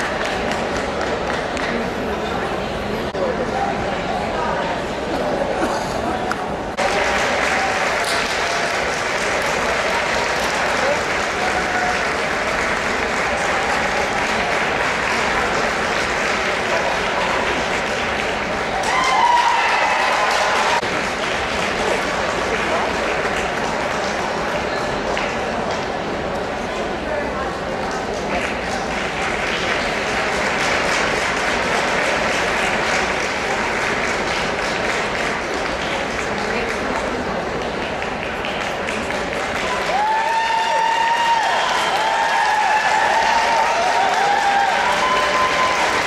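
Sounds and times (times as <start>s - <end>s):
spectators applauding: 0.0s - 2.2s, 6.8s - 26.0s, 27.8s - 46.0s
crowd noise: 0.0s - 46.0s.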